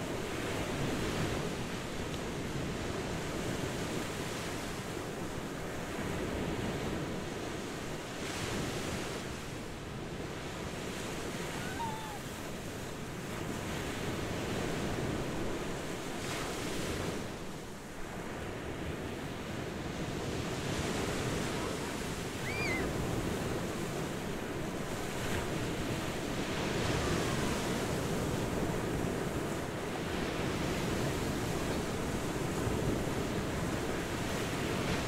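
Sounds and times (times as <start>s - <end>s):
ocean surf washing ashore: 0.0s - 35.0s.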